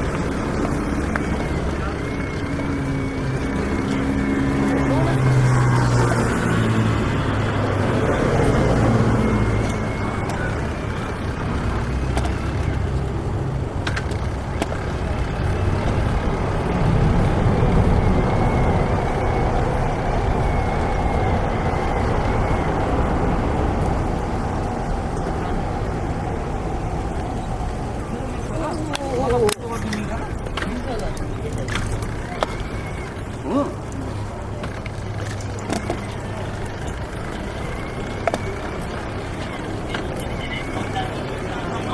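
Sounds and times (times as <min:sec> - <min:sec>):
road traffic passing: 0:00.0 - 0:41.9.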